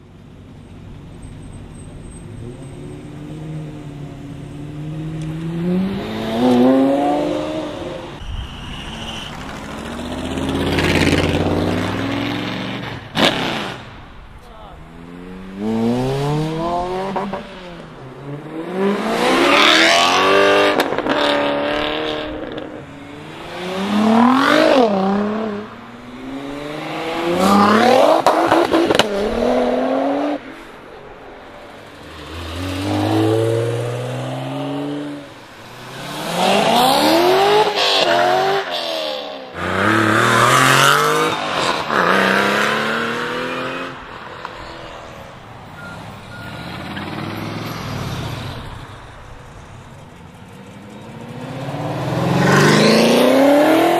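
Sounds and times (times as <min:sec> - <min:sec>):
sports cars accelerating hard: 0:02.3 - 0:13.8, 0:14.9 - 0:30.6, 0:31.7 - 0:46.0, 0:51.0 - 0:53.9.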